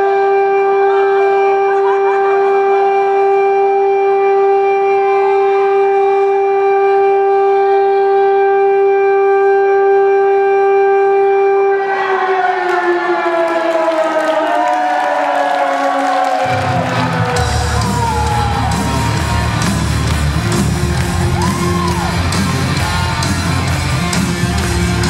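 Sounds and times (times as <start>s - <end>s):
siren winding down: 0.0s - 25.0s.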